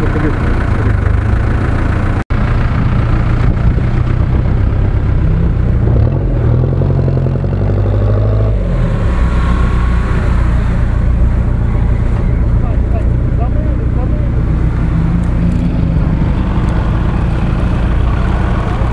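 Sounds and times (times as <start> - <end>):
off-road vehicle engine revving: 0.0 - 18.9.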